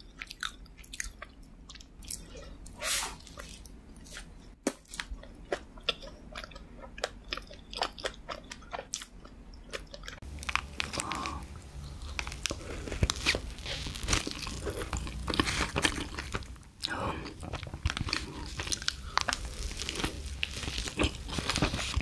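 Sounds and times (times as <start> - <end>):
chewing donut: 0.0 - 3.8, 4.7 - 22.0.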